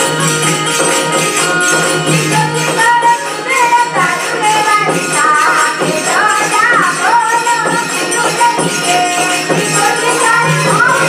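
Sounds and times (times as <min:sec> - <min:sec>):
percussion beat: 0:00.0 - 0:11.0
winding melody with ornaments: 0:00.0 - 0:11.0.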